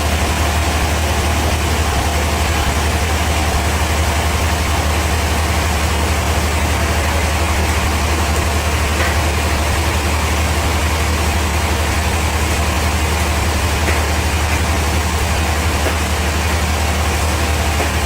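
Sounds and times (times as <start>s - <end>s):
bandsaw sawmill machinery running: 0.0s - 18.0s.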